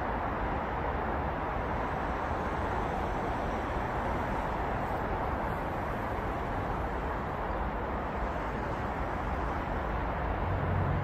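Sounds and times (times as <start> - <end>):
distant road traffic: 0.0 - 11.0.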